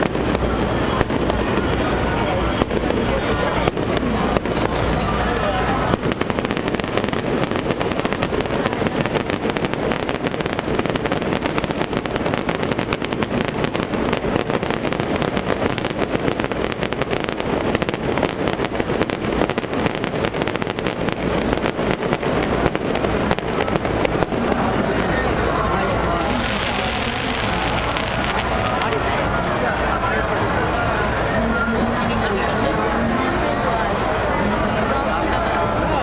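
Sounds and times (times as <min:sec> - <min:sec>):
fireworks crackling pops: 0:00.0 - 0:36.0.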